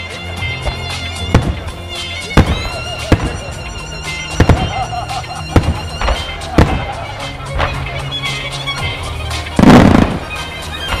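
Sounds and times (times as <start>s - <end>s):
music with long held notes: 0.0s - 11.0s
fireworks bursting with sharp bangs: 0.5s - 11.0s.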